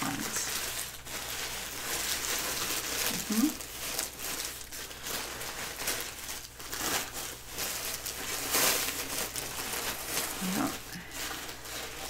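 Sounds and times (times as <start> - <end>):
diaper crinkling and rustling: 0.0 - 12.0.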